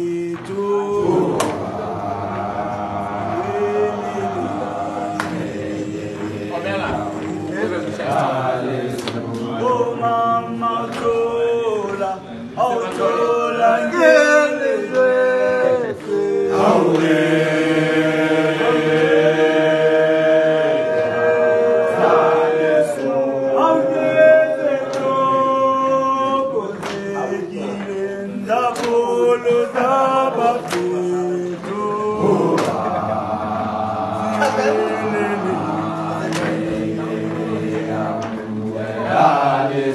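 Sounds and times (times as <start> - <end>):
men singing in harmony: 0.0 - 39.9.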